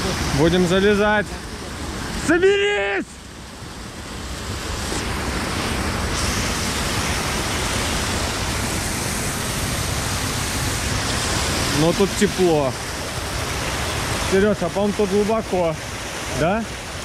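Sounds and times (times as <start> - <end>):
underground river rushing: 0.0 - 17.0.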